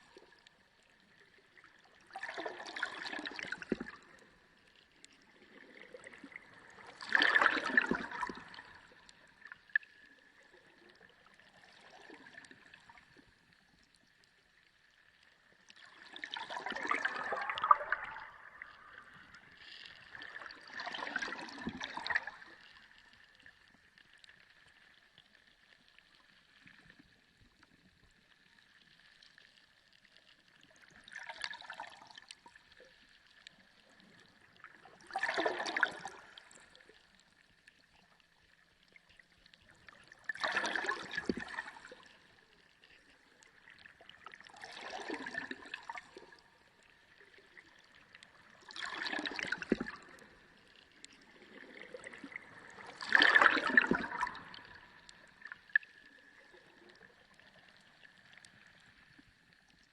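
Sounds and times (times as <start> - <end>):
underwater gurgling and bubbling: 0.0 - 59.9.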